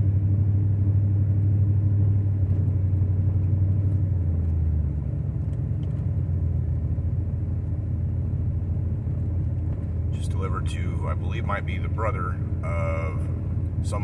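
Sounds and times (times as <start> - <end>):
car interior engine and road drone: 0.0 - 14.0.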